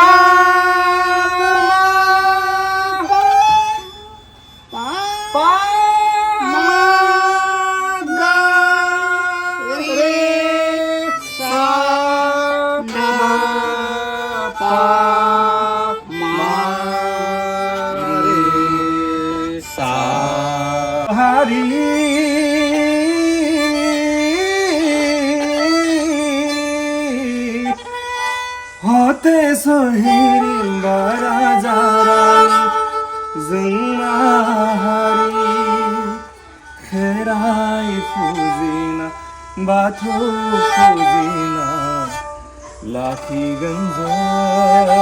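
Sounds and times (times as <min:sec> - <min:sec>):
bowed string instrument melody: 0:00.0 - 0:45.0.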